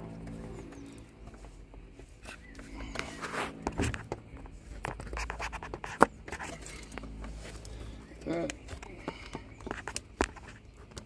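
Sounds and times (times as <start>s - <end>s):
hands and tools scraping and clicking: 2.0s - 11.0s.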